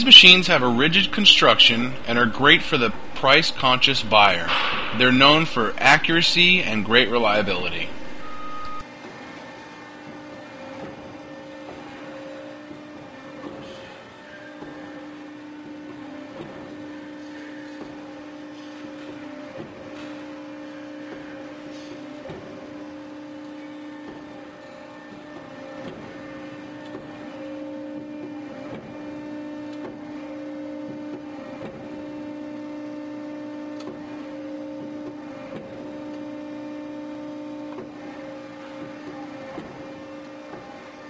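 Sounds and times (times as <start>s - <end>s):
hydraulic pump humming and whining: 0.0s - 41.0s.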